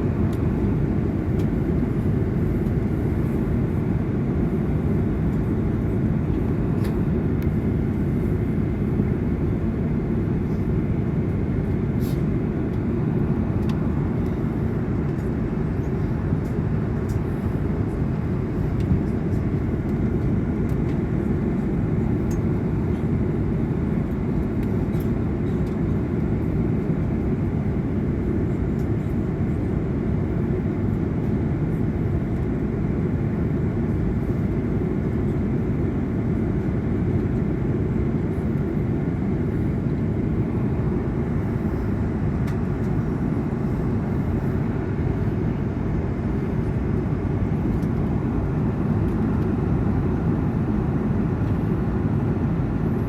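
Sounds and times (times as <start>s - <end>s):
airliner cabin noise: 0.0s - 53.0s.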